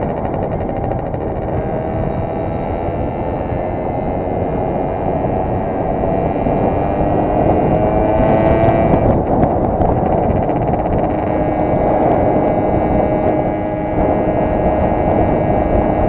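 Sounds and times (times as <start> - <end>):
moped engine running: 0.0 - 16.0
wind rush on microphone: 0.0 - 16.0.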